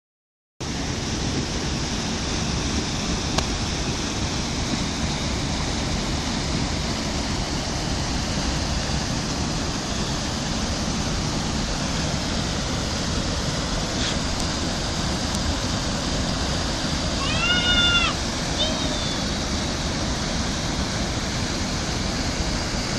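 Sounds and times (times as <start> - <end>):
rushing water: 0.6 - 22.9.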